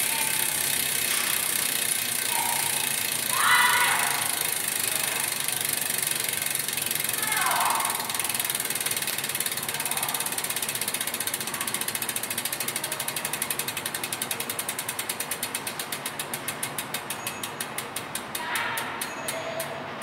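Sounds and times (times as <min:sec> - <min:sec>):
bicycle freehub ratchet clicking: 0:00.0 - 0:20.0.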